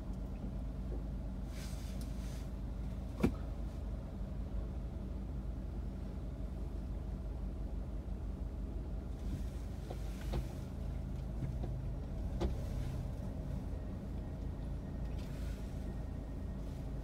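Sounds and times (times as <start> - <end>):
car engine rumble from inside: 0.0 - 17.0.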